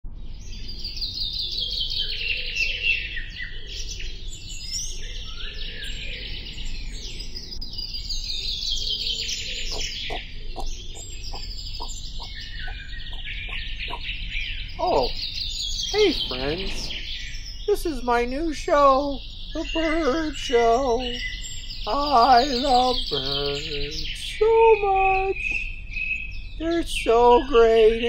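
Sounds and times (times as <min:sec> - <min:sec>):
songbirds chirping and trilling: 0:00.1 - 0:28.0.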